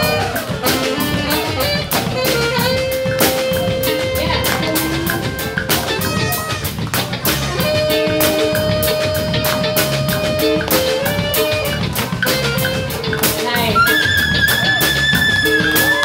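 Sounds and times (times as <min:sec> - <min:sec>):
drum kit beat: 0:00.0 - 0:16.0
electric guitar: 0:00.0 - 0:16.0
held instrumental notes: 0:00.0 - 0:16.0.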